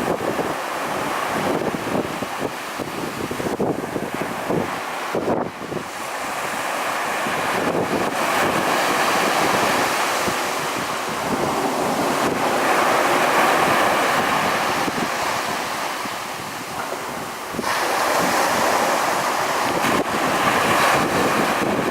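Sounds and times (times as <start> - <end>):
ocean surf washing onto beach: 0.0 - 21.9
wind buffeting microphone: 0.0 - 21.9.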